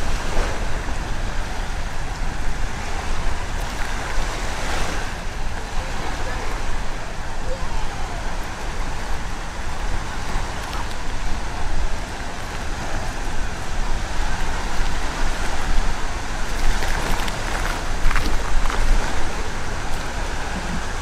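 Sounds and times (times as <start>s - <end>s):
surf rushing: 0.0s - 21.0s
wind rumbling on microphone: 0.0s - 21.0s.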